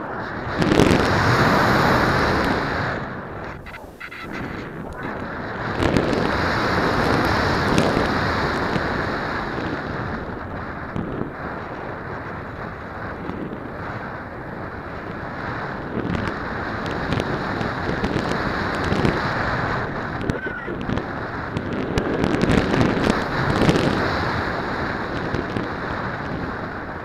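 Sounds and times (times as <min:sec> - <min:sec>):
wind rushing on microphone: 0:00.0 - 0:27.0.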